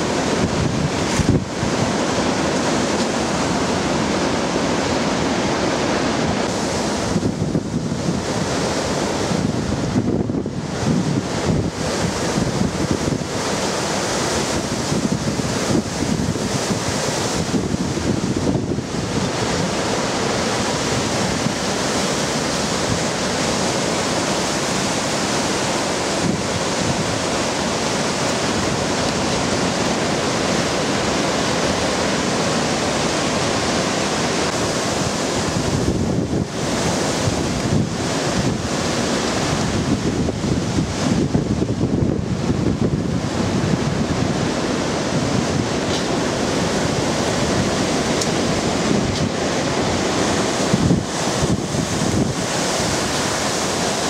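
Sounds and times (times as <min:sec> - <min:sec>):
driving rain: 0:00.0 - 0:54.0
strong wind through trees: 0:00.0 - 0:54.0
wind buffeting microphone: 0:00.0 - 0:54.0.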